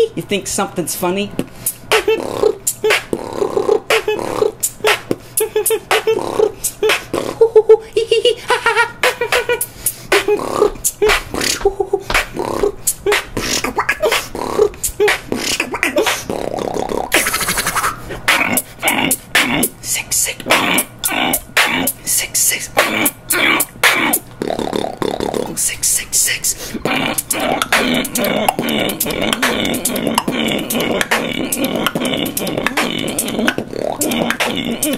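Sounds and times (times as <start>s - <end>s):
person beatboxing: 0.0s - 34.9s
humming tones: 1.3s - 34.9s
sustained mouth hiss: 1.4s - 7.5s, 12.2s - 34.9s.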